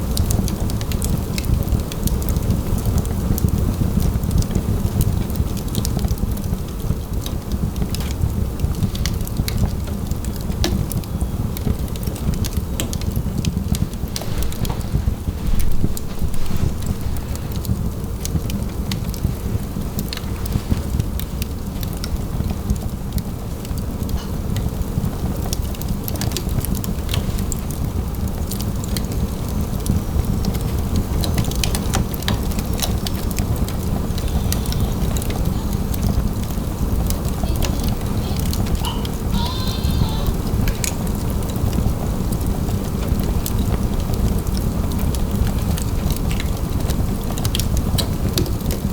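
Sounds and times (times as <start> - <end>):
fire crackling and popping: 0.0 - 48.9
low rumble of flame: 0.0 - 48.9.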